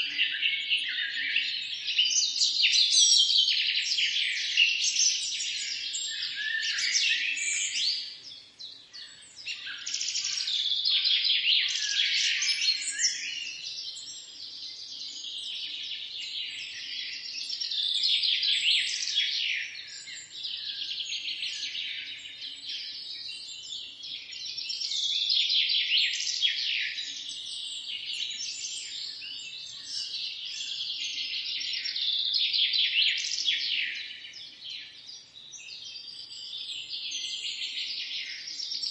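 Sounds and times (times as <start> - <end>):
flock of small birds chirping: 0.0 - 38.9.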